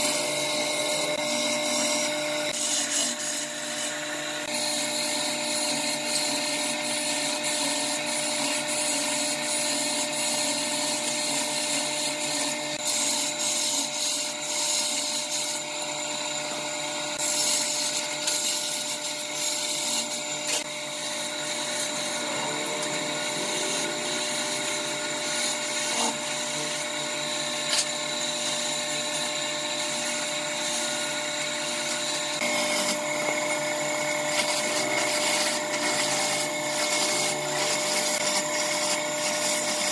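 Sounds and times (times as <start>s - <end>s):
chisel cutting spinning wood: 0.0s - 39.9s
lathe motor hum: 0.0s - 39.9s.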